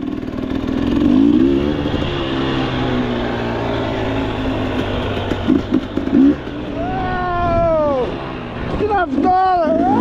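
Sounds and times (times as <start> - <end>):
motorcycle engine pulling away: 0.0 - 10.0.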